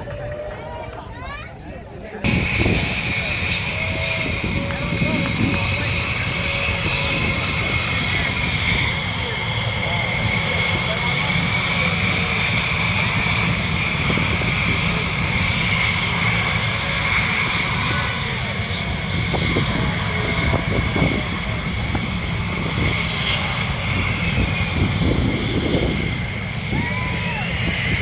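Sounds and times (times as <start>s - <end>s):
airplane engine rumble and whine: 0.0s - 28.0s.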